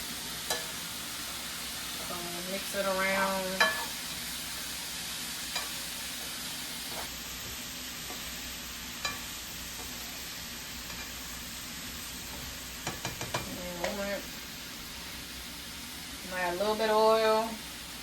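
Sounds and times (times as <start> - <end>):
vegetables sizzling in a frying pan: 0.0 - 18.0.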